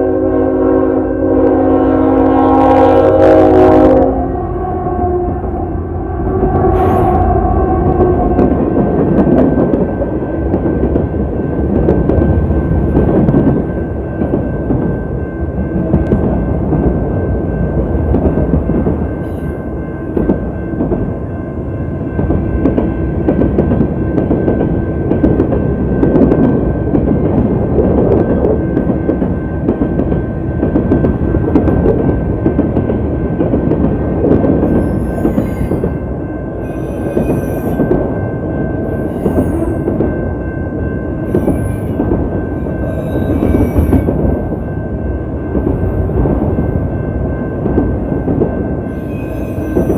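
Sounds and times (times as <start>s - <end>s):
freight train rumbling past: 0.0s - 49.9s.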